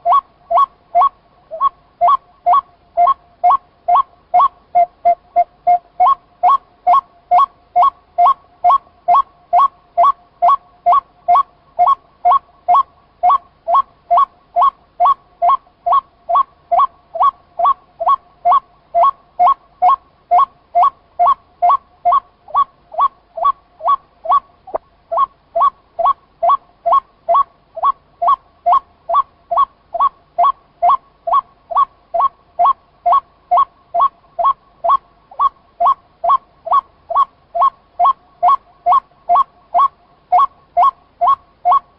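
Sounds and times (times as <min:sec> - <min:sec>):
waterhen calling: 0:00.0 - 0:41.9.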